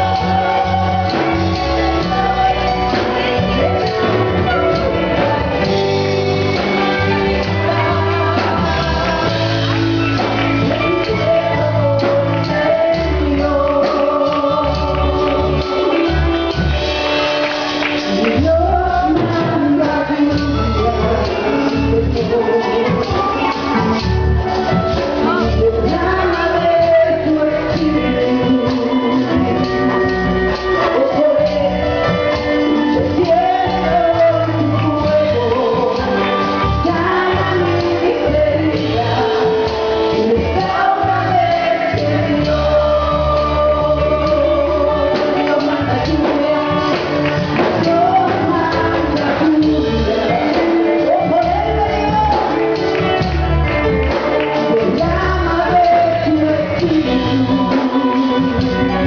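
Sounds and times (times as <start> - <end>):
band accompaniment: 0.0 - 59.0
congregation singing a hymn: 0.0 - 59.0.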